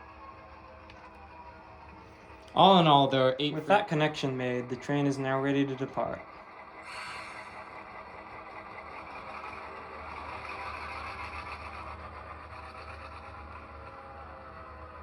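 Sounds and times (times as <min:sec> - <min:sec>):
model locomotive diesel engine sound: 0:00.0 - 0:15.0.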